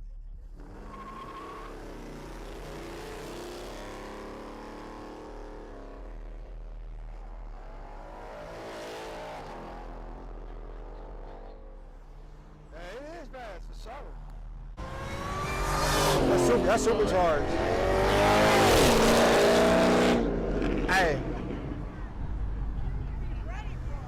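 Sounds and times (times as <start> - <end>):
car engine accelerating and passing: 0.5 - 22.8.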